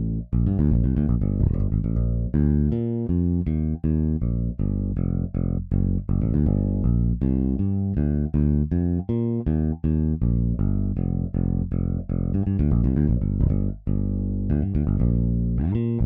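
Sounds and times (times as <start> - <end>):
electric bass funk groove: 0.0 - 16.0.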